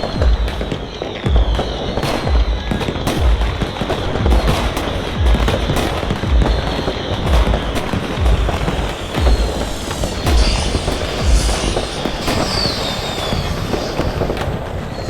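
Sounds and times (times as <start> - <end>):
music with steady bass beat: 0.0 - 12.4
fireworks bursting and crackling: 0.0 - 15.0.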